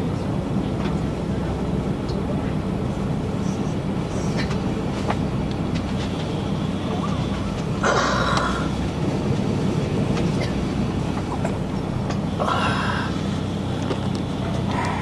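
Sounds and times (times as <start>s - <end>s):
train engine humming: 0.0s - 15.0s.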